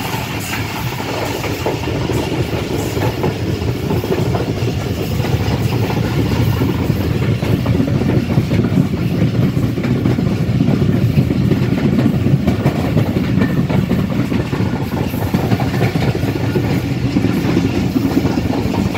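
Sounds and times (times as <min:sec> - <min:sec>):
train wheels rumbling on track: 0:00.0 - 0:18.9.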